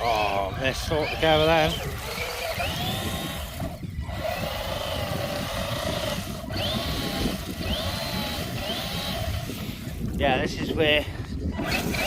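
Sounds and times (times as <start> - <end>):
electric motor and gears whining: 0.0 - 12.0
low wind rumble: 0.0 - 12.0.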